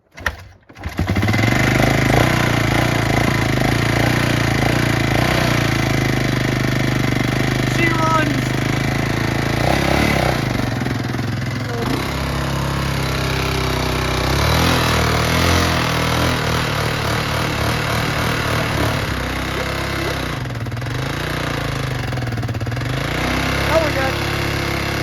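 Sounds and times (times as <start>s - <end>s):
atv engine revving: 0.2s - 25.0s.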